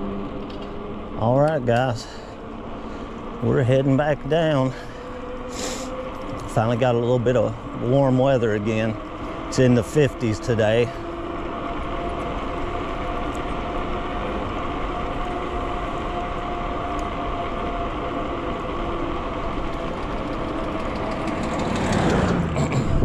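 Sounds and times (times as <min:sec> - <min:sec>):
faint engine hum: 0:00.0 - 0:23.0
vehicle driving on road: 0:00.0 - 0:23.0.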